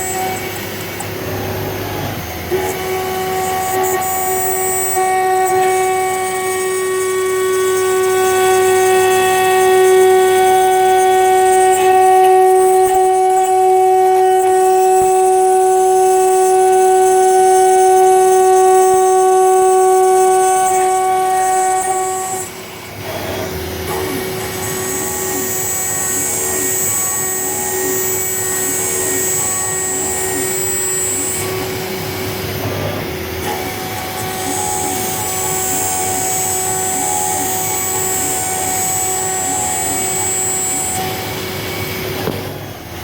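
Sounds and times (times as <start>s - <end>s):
router spindle whine: 0.0s - 43.0s.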